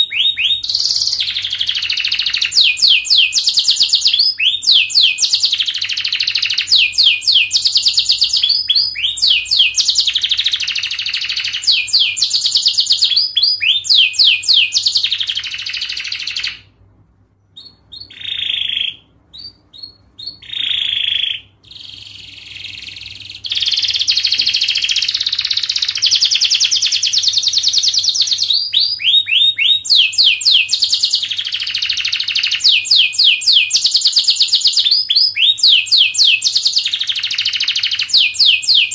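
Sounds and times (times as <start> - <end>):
canary singing trills: 0.0 - 16.7, 17.4 - 38.9.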